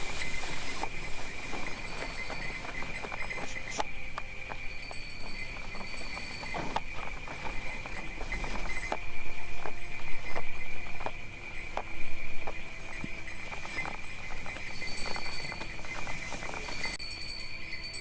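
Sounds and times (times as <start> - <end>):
horse hooves clip-clopping: 0.0 - 18.0
sleigh bells jingling: 0.0 - 18.0.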